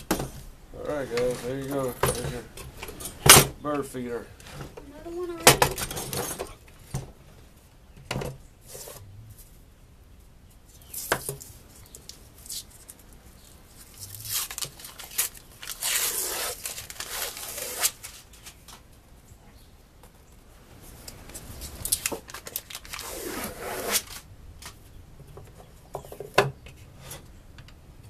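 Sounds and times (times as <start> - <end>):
rustling or scraping: 0.0 - 7.4, 8.6 - 9.6, 10.6 - 18.9, 20.7 - 27.4.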